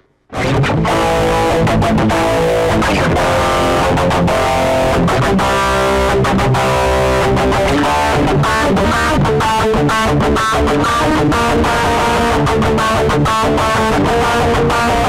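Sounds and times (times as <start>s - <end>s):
electric guitar strumming chords: 0.3s - 15.0s.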